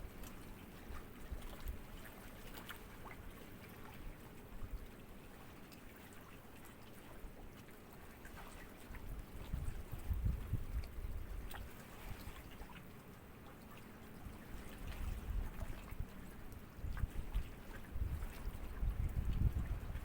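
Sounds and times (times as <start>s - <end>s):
sea ripples lapping at shore: 0.0s - 20.0s
small trickling splashes: 0.0s - 20.0s.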